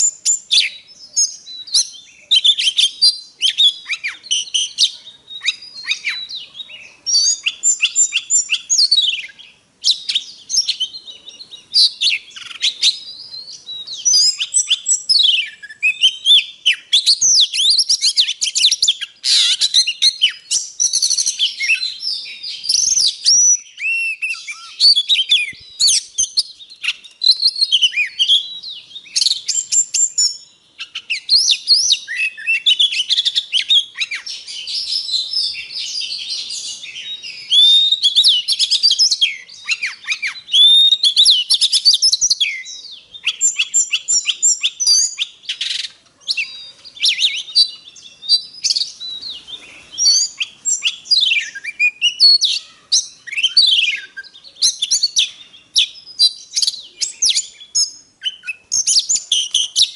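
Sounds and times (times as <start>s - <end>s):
bird singing varied song: 0.0s - 59.9s.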